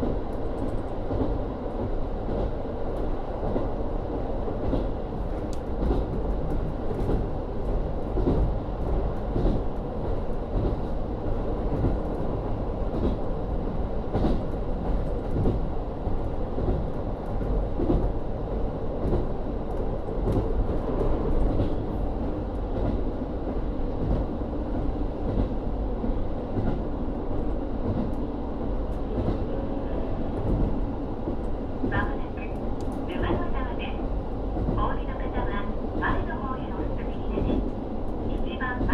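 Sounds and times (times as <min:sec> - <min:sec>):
diesel railcar rumbling: 0:00.0 - 0:38.9.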